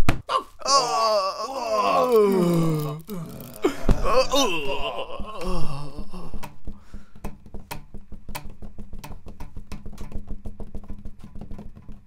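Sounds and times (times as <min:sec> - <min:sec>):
low steady hum: 0:00.4 - 0:12.0.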